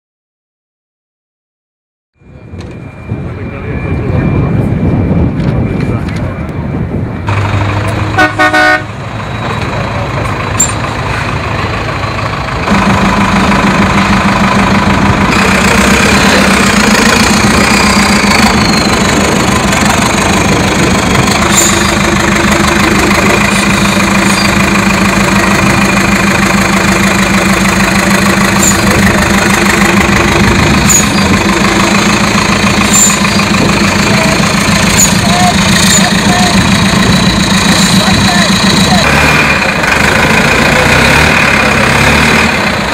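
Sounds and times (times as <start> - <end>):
truck diesel engine running: 2.2 - 42.9.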